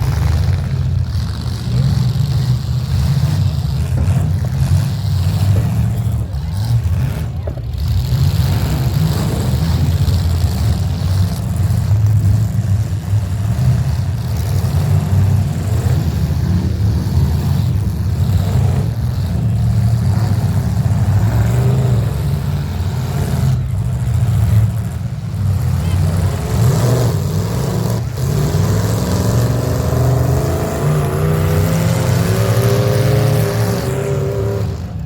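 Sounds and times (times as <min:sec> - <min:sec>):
car engines running and revving: 0:00.0 - 0:35.0.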